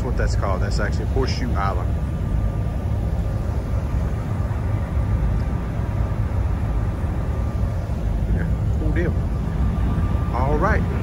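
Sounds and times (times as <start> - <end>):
faint steady whine: 0.0 - 11.0
ship engines rumbling: 0.0 - 11.0
wind across deck: 0.0 - 11.0.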